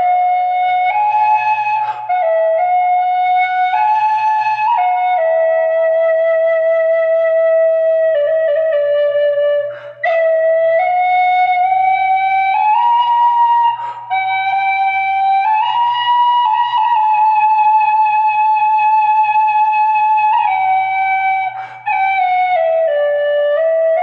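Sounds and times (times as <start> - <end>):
flute playing slow melody: 0.0 - 24.0.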